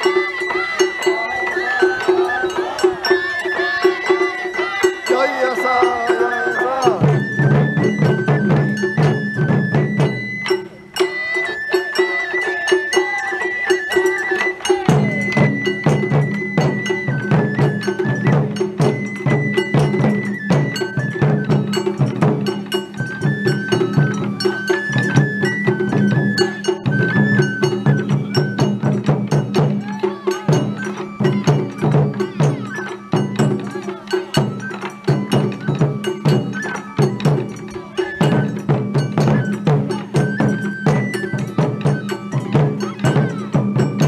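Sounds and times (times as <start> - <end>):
bamboo flute melody: 0.0 - 44.0
taiko drums: 0.0 - 44.0.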